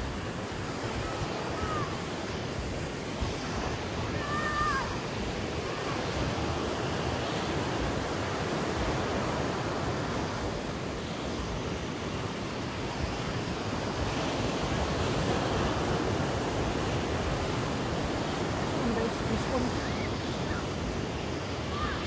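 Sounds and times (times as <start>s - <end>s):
ocean surf breaking on beach: 0.0s - 22.0s
wind rumbling on microphone: 0.0s - 22.0s.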